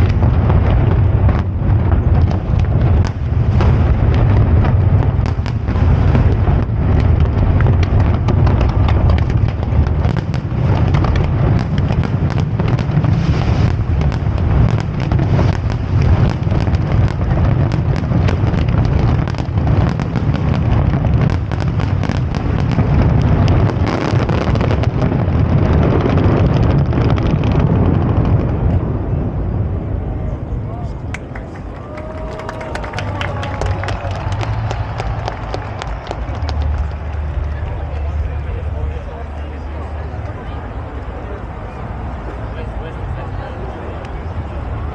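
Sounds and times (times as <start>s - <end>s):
fireworks bursting and crackling: 0.0s - 29.9s, 30.9s - 44.9s
heavy low rumble: 0.0s - 44.9s.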